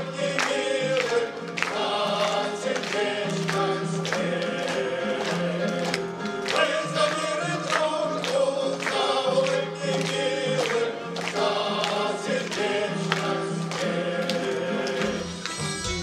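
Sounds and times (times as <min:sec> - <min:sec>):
choir singing: 0:00.0 - 0:15.5
instrumental accompaniment: 0:00.0 - 0:16.0.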